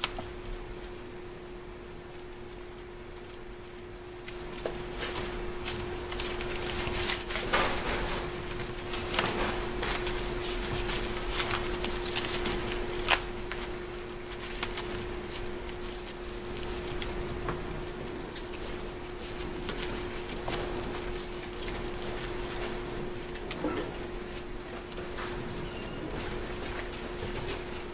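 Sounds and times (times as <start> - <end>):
kittens scrabbling at paper: 0.0 - 1.2, 1.8 - 27.9
paper crinkling and crackling: 0.0 - 27.9
steady hum: 0.0 - 27.9.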